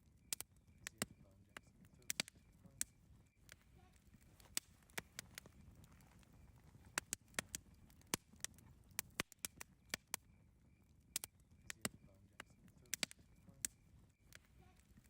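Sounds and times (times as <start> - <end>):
burning wood popping: 0.0 - 15.0
campfire crackling: 0.0 - 15.0
low rumble of fire: 0.0 - 15.0.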